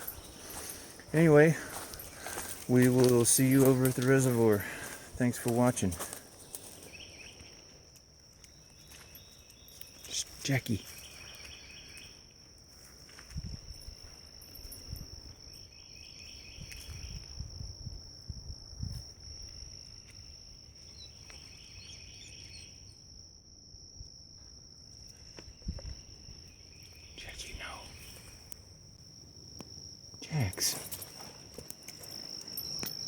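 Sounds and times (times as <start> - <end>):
insect high-pitched trill: 0.0 - 33.0
rapid pulsed insect chirping: 0.0 - 33.0.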